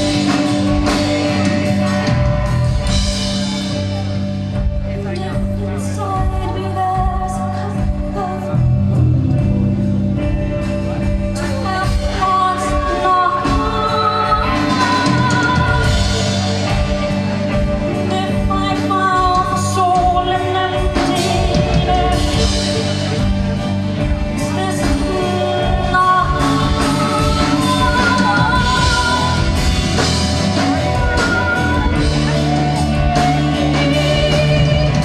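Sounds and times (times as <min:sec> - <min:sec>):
person singing: 0:00.0 - 0:04.2, 0:10.5 - 0:35.0
bass: 0:00.0 - 0:35.0
drums: 0:00.0 - 0:35.0
guitar: 0:00.0 - 0:35.0.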